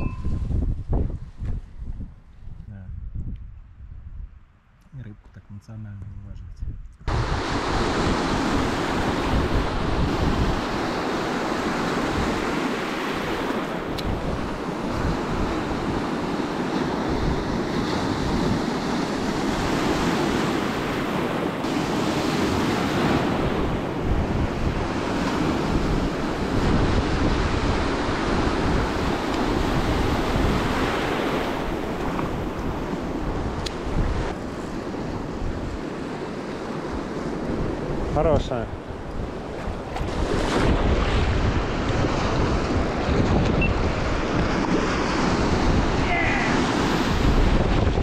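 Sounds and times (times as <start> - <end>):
wind rumbling on microphone: 0.0 - 48.0
waves washing over rocks: 7.1 - 38.3, 39.3 - 48.0.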